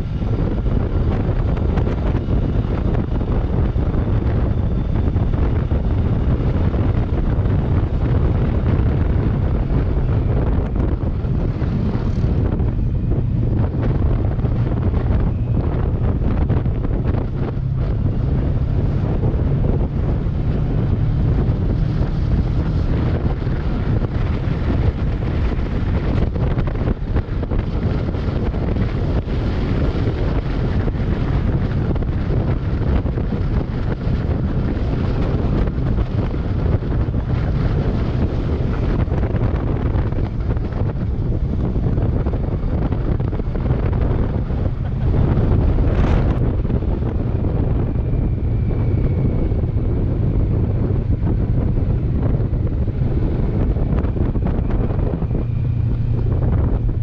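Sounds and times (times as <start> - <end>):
motorcycle engine: 0.0 - 57.0
wind buffeting microphone: 0.0 - 57.0.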